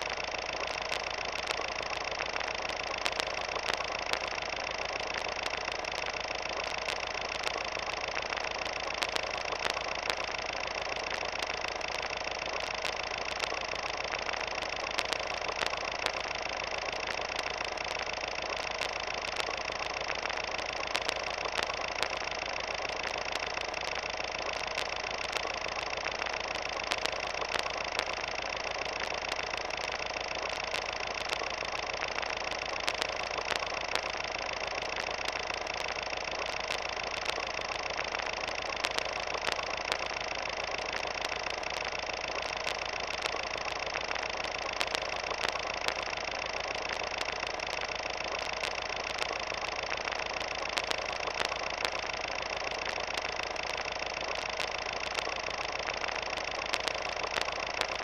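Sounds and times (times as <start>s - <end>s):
clicks and crackles: 0.0s - 58.0s
steady mechanical drone: 0.0s - 58.0s.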